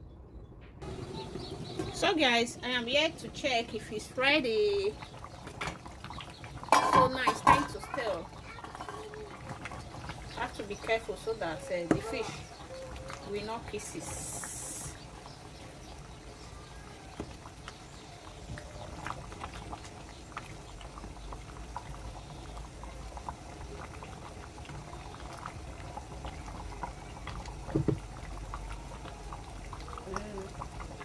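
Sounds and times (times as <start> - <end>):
soup bubbling in a pot: 0.8 - 31.0.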